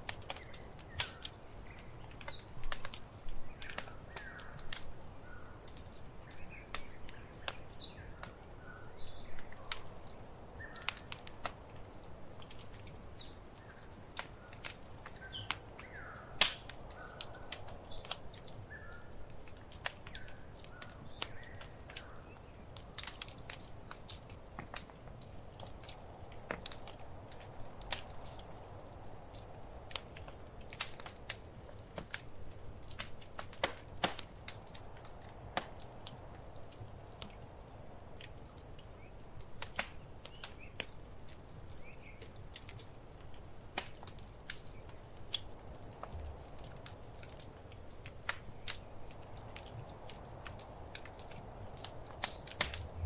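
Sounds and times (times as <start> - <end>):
low rumble of flame: 0.0 - 53.0
wood fire pops and snaps: 0.0 - 53.0.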